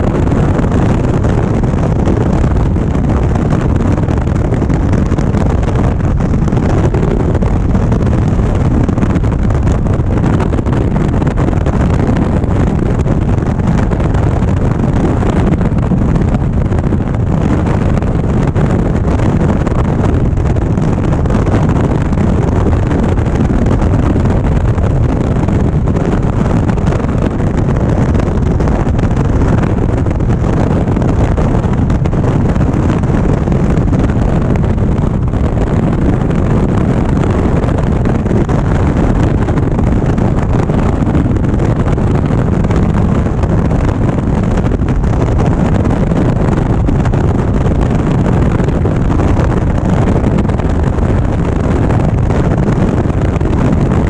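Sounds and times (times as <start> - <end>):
road noise: 0.0 - 54.0
wind rush on microphone: 0.0 - 54.0.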